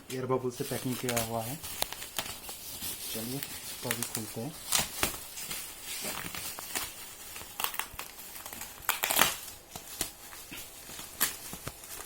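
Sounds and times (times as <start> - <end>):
bubble wrap crinkling: 0.1 - 12.0.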